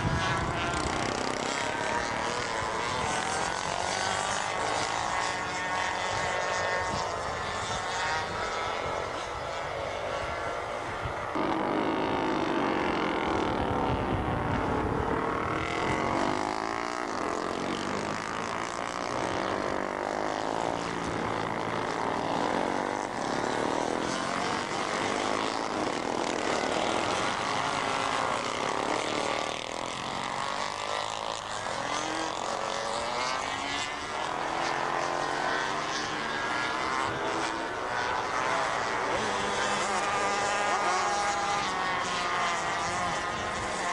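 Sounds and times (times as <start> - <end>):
racing motorcycles passing by: 0.0 - 43.9.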